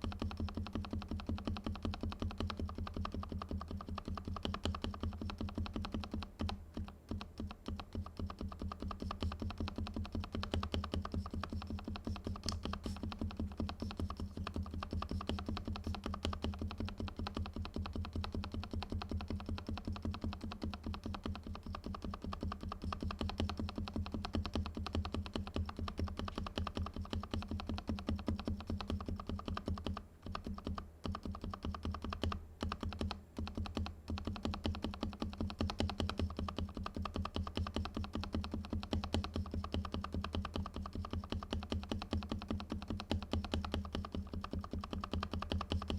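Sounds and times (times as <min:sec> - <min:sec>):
fast typing on mechanical keyboard: 0:00.0 - 0:45.9.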